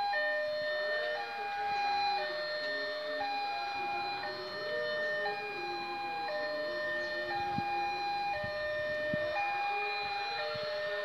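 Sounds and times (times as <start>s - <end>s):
level crossing two-tone alarm: 0.0s - 11.0s
lower pair of alarm tones: 0.0s - 11.0s.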